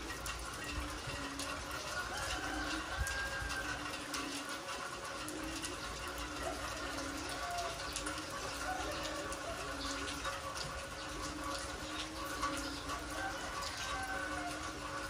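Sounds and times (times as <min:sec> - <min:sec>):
rain on concrete: 0:00.0 - 0:15.0.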